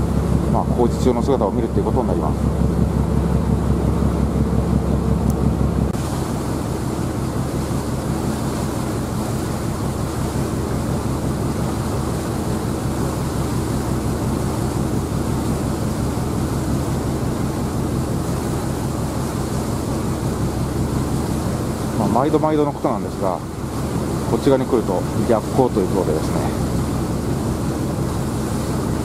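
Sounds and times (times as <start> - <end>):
ferry engine droning: 0.0 - 29.0
rush of wind and water: 0.0 - 29.0.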